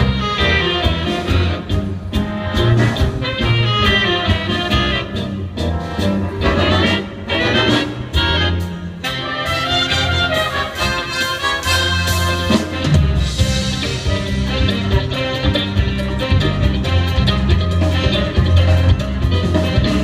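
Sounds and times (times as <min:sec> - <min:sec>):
band playing jazz: 0:00.0 - 0:20.0
brass: 0:00.0 - 0:20.0.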